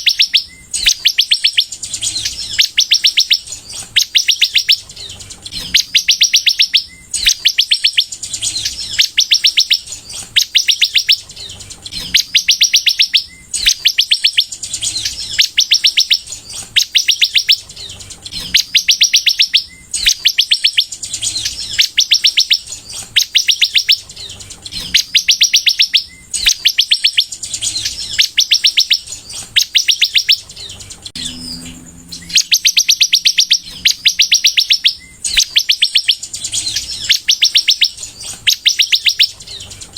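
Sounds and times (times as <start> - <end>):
bird singing trilled notes: 0.0 - 39.9.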